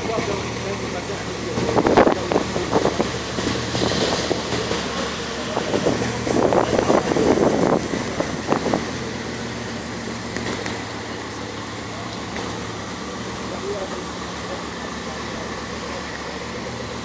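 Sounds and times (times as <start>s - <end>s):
car engine idling: 0.0s - 17.0s
people's voices: 0.0s - 17.0s.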